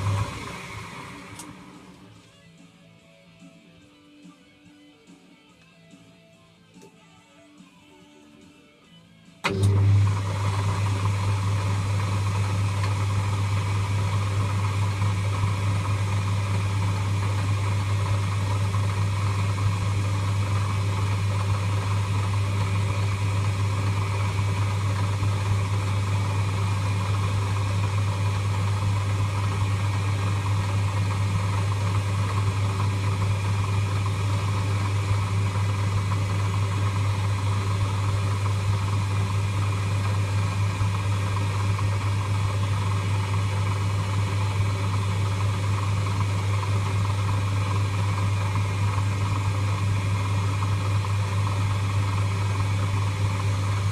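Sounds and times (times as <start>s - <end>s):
electric motor humming: 0.0s - 2.1s, 9.5s - 53.9s.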